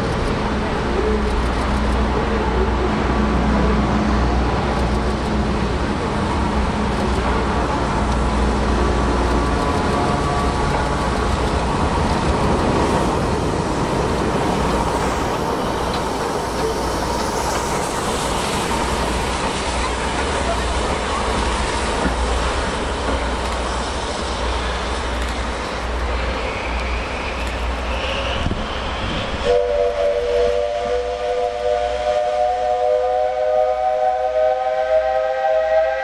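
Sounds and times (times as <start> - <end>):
steam train wheels and coaches rolling: 0.0 - 36.0.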